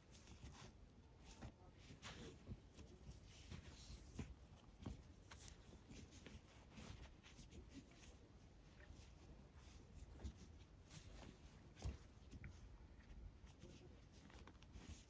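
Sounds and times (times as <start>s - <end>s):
cord rustling and ticking: 0.0s - 15.0s.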